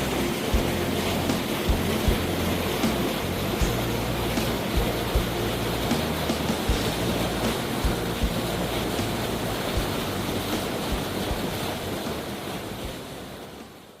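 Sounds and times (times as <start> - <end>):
waterfall water rushing: 0.0 - 14.0.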